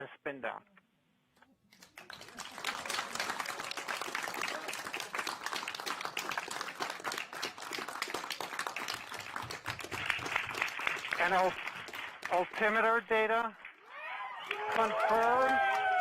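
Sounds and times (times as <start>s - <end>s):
crowd applauding: 1.7s - 16.0s.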